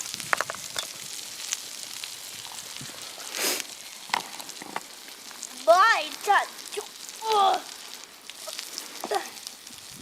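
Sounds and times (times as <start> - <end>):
burgers sizzling in a pan: 0.0 - 10.0
pops and crackles: 0.0 - 10.0.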